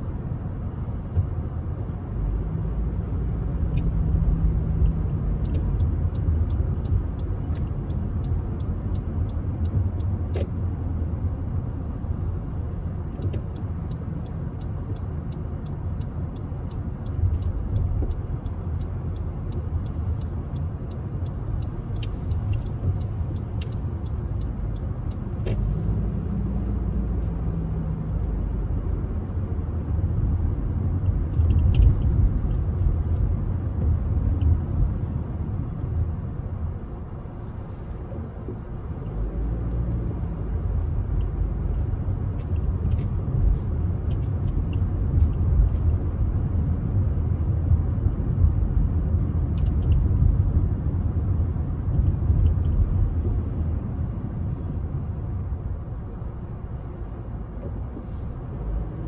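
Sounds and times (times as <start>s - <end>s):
road vehicles rumbling: 0.0s - 59.0s.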